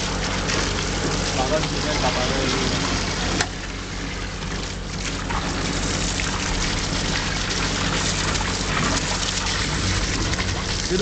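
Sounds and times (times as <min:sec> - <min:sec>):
water jetting into tank: 0:00.0 - 0:11.0
water splashing onto slurry: 0:00.0 - 0:11.0.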